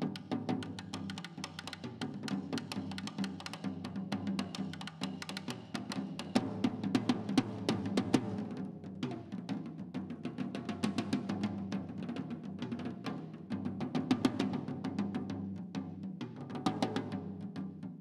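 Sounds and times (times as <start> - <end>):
snare drum and tom-toms: 0.0 - 18.0.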